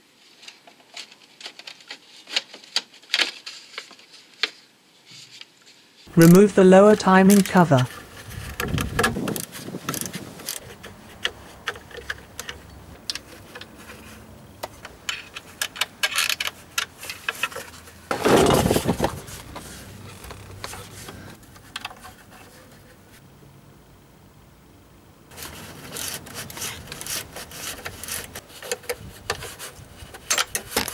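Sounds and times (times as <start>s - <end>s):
scraping rustle: 0.0s - 23.2s, 25.3s - 30.9s.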